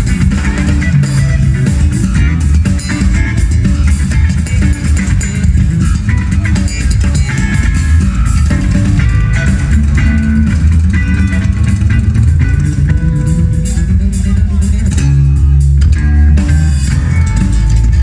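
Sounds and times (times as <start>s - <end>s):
bass guitar: 0.0s - 18.0s
drum kit: 0.0s - 18.0s
electric guitar: 0.0s - 18.0s.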